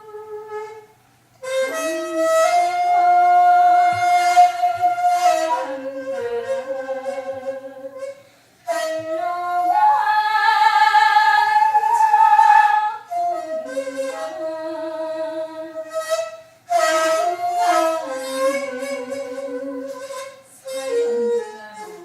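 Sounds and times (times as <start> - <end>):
bamboo flute melody: 0.0 - 22.0.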